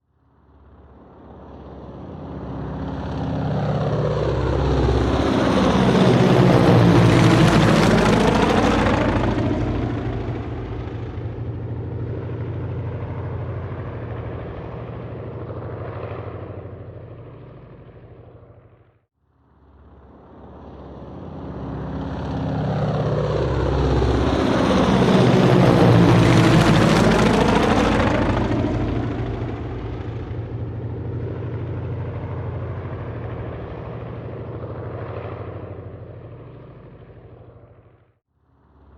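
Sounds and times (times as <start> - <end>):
helicopter flying past: 0.1 - 38.9.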